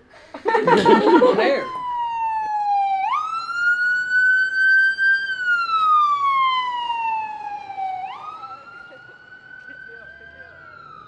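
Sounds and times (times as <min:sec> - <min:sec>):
ambulance siren wailing: 0:00.5 - 0:11.0.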